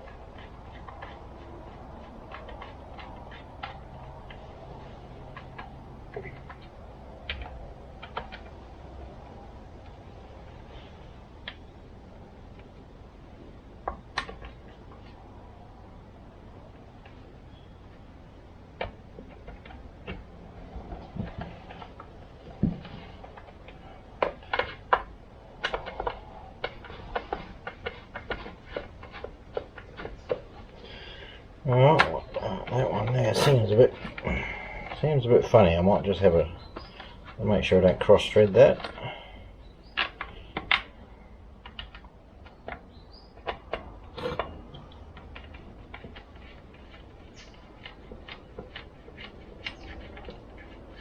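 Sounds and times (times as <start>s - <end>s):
hand tools clicking and tapping: 0.0s - 10.2s, 13.8s - 15.5s, 16.5s - 51.0s.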